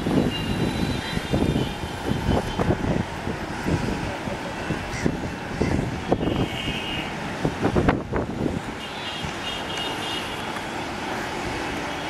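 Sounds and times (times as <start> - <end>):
city rumble: 0.0 - 12.0
distant train on viaduct: 0.0 - 12.0.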